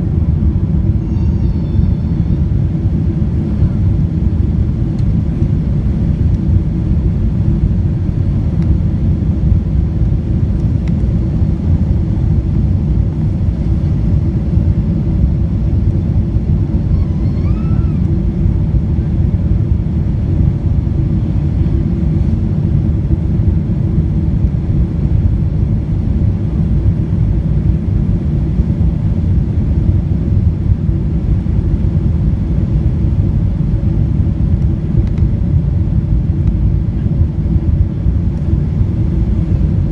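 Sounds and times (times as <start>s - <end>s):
airliner engines in cabin: 0.0s - 39.9s.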